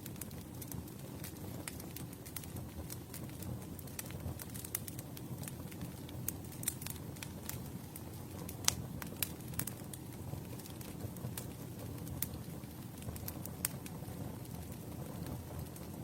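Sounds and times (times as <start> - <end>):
low rumble of flame: 0.0 - 16.0
wood crackling and popping: 0.0 - 16.0.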